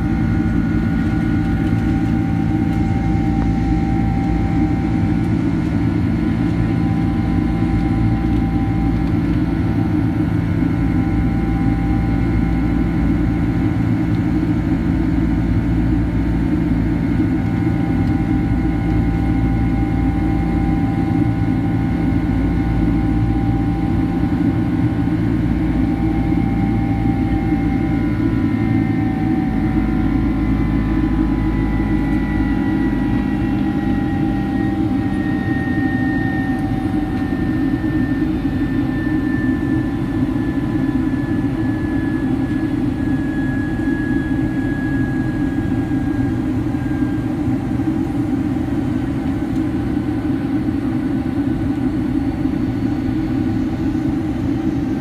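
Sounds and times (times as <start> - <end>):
jet engine rumble in cabin: 0.0 - 55.0
whining fan tones: 0.0 - 55.0.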